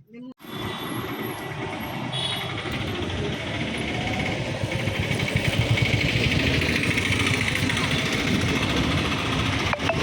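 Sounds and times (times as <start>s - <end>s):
road and wind noise: 0.0s - 10.0s
small vehicle engine running: 0.4s - 10.0s.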